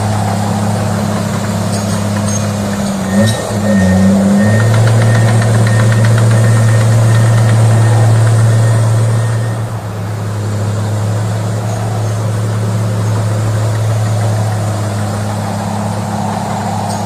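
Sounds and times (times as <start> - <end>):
low steady motor hum: 0.0 - 17.0.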